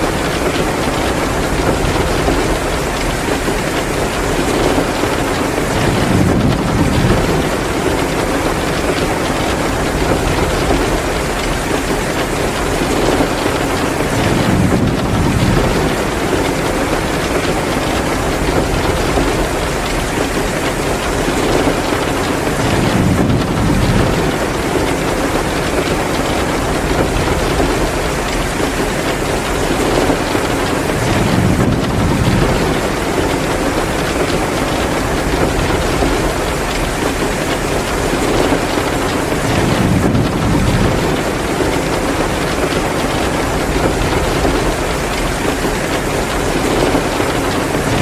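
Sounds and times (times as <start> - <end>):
heavy pouring rain: 0.0 - 48.0.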